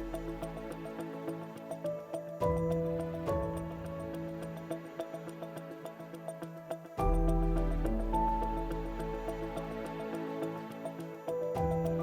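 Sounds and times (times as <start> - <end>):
light ticking notes: 0.0 - 12.0
soft background music: 0.0 - 12.0.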